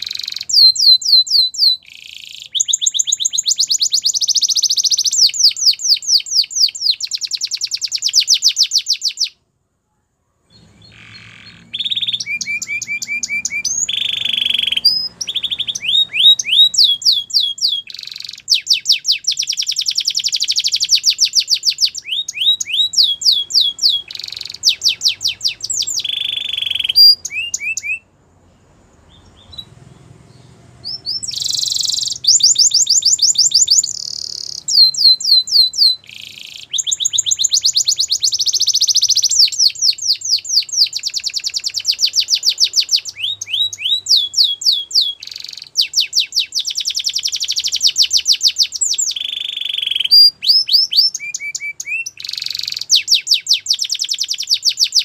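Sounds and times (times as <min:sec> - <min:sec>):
canary singing: 0:00.0 - 0:09.4, 0:10.5 - 0:55.0.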